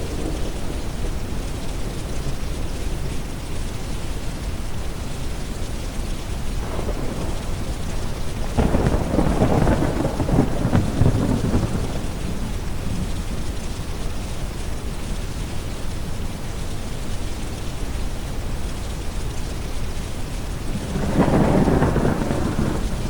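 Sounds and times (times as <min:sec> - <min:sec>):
deep brown noise: 0:00.0 - 0:23.0
steady rain: 0:00.0 - 0:23.0
thunder crackling and rumbling: 0:00.0 - 0:23.0.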